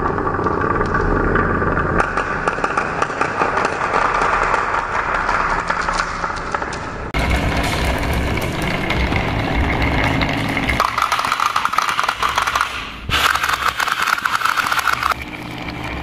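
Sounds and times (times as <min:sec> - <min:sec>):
plastic balls rolling on wooden track: 0:00.0 - 0:15.2.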